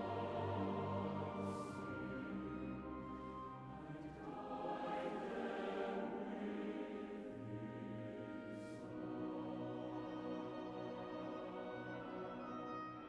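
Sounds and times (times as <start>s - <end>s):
choir singing long chords: 0.0s - 13.0s.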